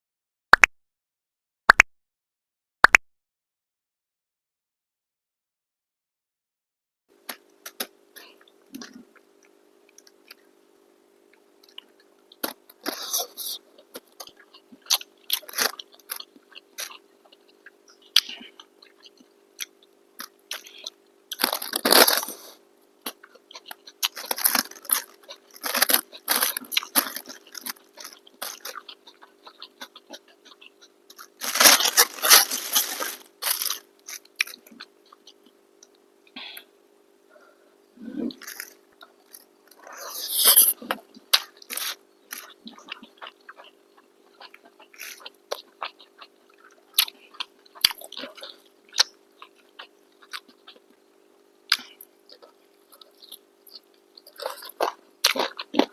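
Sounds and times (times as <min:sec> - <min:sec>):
crunching and chewing food: 0:07.2 - 0:36.7, 0:38.2 - 0:55.9.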